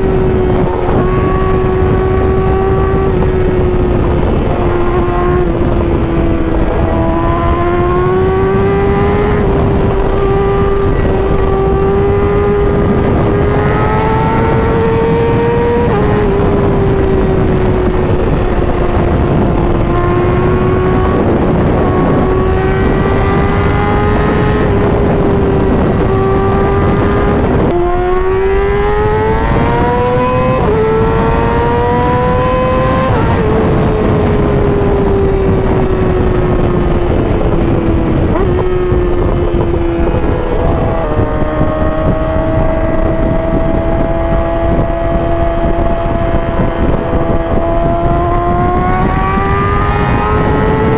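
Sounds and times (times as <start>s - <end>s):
motorcycle engine at high revs: 0.0s - 50.9s
wind and road rush: 0.0s - 50.9s.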